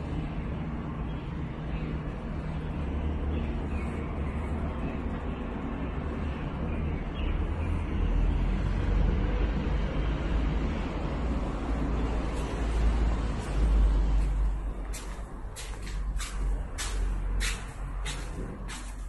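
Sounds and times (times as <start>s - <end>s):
distant road traffic hum: 0.0s - 19.0s.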